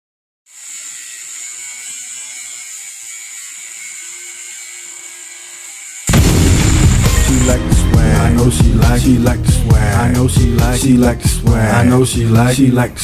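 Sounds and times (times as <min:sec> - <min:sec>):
angle grinder cutting steel: 0:00.5 - 0:11.4.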